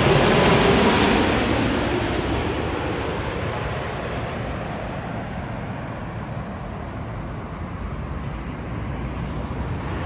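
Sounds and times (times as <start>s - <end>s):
jet airliner engines rumbling: 0.0s - 10.0s.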